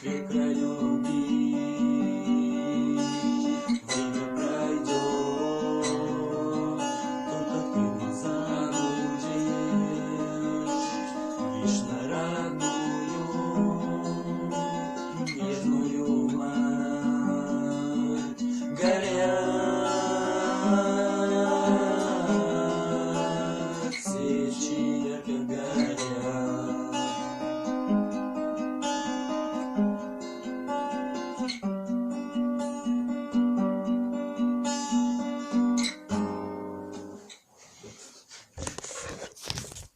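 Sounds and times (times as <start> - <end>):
acoustic guitar playing: 0.0 - 37.5.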